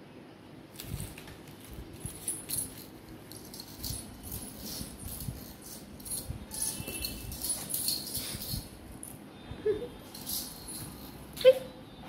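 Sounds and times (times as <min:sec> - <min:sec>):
small metal bells jingling: 0:00.8 - 0:11.7.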